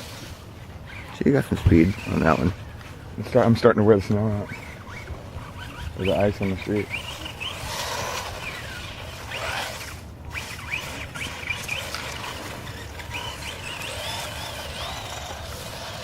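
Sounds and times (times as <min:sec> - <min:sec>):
rc car electric motor whining: 0:00.0 - 0:16.0.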